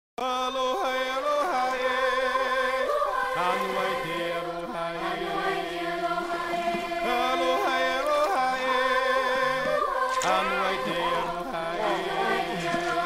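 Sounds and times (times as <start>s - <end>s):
chant-like voices sliding pitch: 0.8s - 13.0s.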